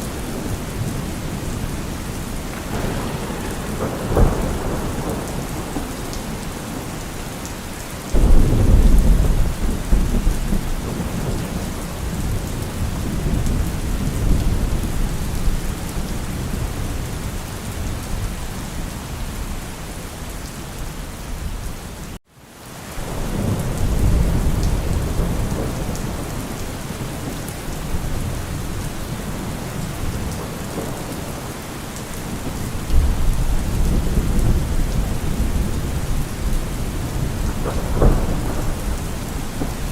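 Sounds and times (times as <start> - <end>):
thunder rumbling: 0.0 - 19.5, 23.0 - 39.9
steady rain falling: 0.0 - 39.9.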